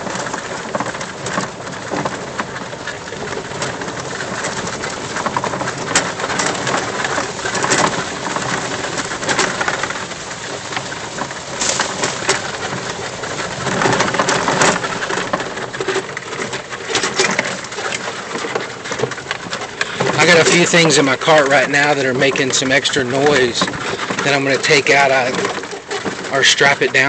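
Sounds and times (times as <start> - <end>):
loose items rattling in cart: 0.0 - 27.0
tyres rolling on dirt: 0.0 - 27.0.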